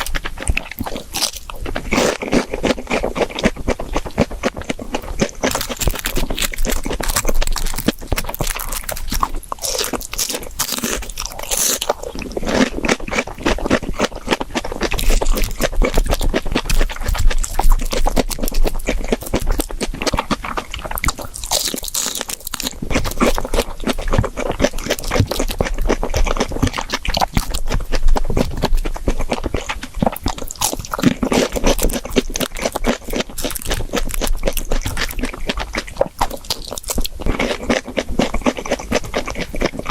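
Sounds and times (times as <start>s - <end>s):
crunching and chewing fried food: 0.0s - 39.9s.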